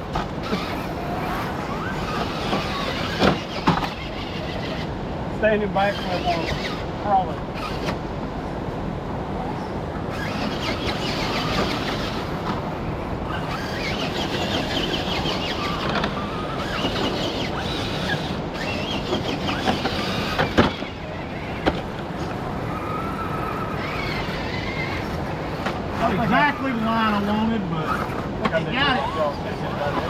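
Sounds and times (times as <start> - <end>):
electric motor and gears whining: 0.0 - 8.1, 9.6 - 30.0.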